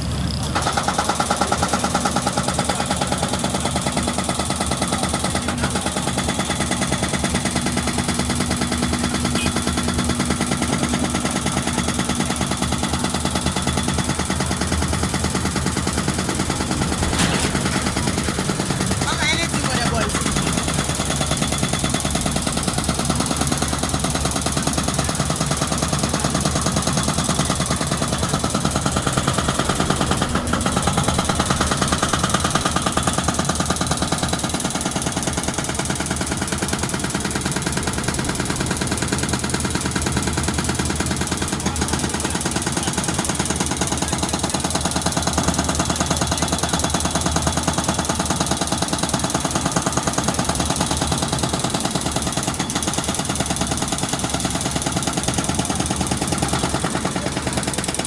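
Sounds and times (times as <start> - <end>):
excavator engine running: 0.0 - 58.0
hydraulic breaker hammering concrete: 0.2 - 58.0.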